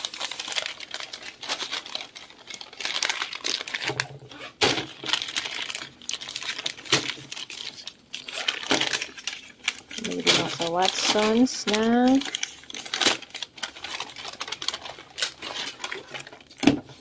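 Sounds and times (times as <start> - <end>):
paper bag and plastic crinkling: 0.0 - 17.0.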